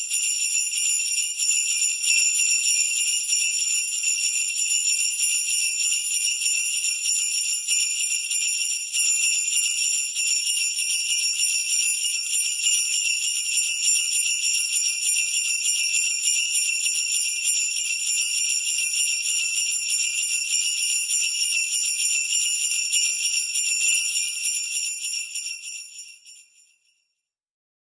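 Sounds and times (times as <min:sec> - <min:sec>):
sleigh bells jingling: 0:00.0 - 0:26.7.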